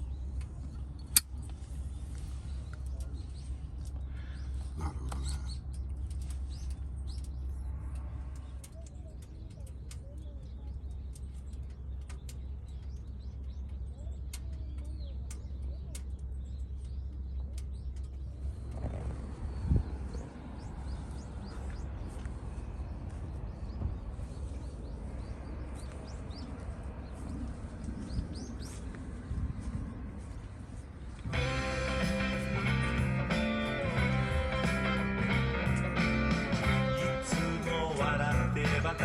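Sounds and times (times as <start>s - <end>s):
birds chirping: 0.0s - 39.0s
steady low rumble: 0.0s - 39.0s.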